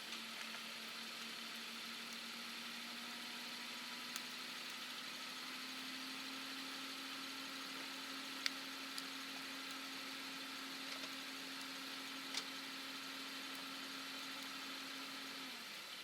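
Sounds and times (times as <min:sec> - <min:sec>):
wood fire hissing and crackling: 0:00.0 - 0:16.0.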